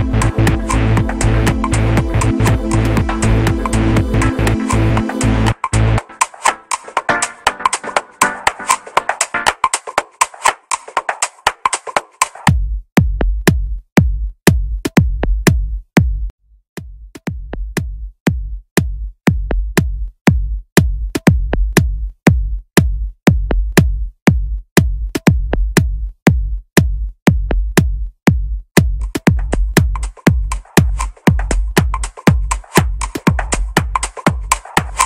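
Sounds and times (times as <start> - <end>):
music with steady beat: 0.0 - 35.0.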